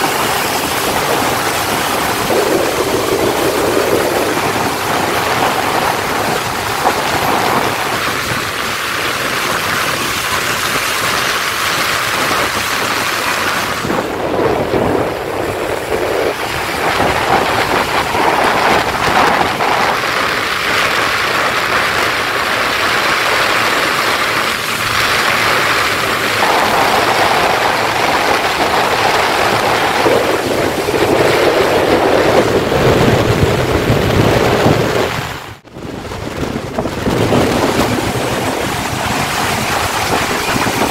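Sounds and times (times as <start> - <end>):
heavy rain hissing: 0.0 - 40.9
road traffic: 0.0 - 40.9.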